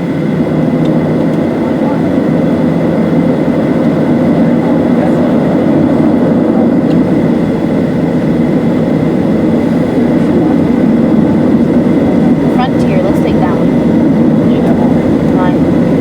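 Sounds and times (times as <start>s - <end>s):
airplane cabin low rumble: 0.0s - 16.0s.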